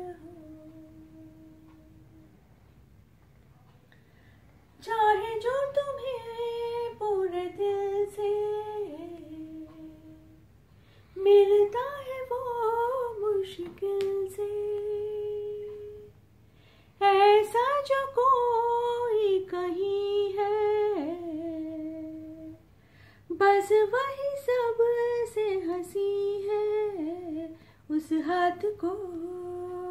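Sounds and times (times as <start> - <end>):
woman singing unaccompanied: 0.0 - 2.5, 4.7 - 16.3, 17.0 - 22.7, 23.3 - 29.9.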